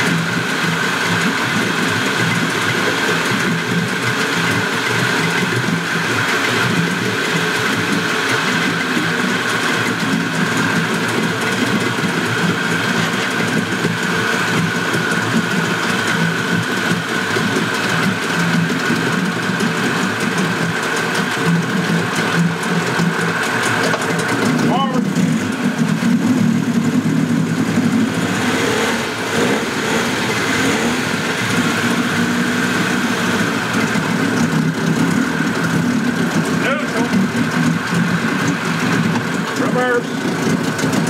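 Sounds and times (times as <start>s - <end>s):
two-stroke outboard motor running: 0.0s - 41.0s.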